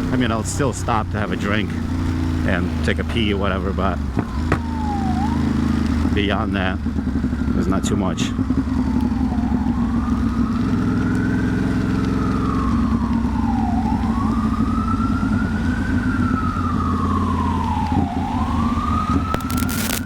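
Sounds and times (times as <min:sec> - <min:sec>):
ambulance siren wailing: 0:00.0 - 0:20.0
motorcycle engine humming: 0:00.0 - 0:20.0.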